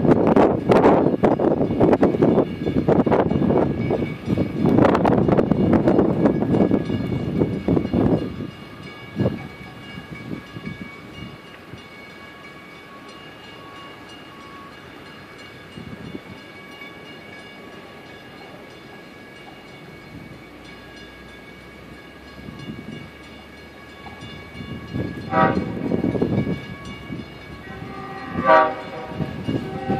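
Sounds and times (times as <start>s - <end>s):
distant train rumble: 0.0s - 29.9s.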